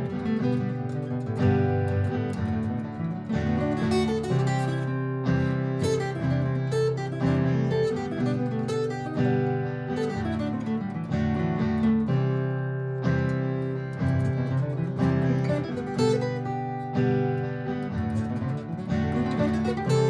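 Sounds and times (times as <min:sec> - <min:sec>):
acoustic guitar strumming chords: 0:00.0 - 0:20.0
looped guitar backing: 0:00.0 - 0:20.0.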